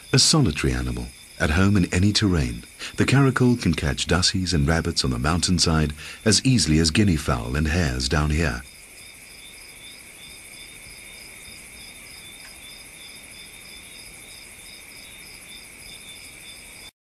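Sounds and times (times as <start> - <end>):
insects chirping: 0.0 - 16.9.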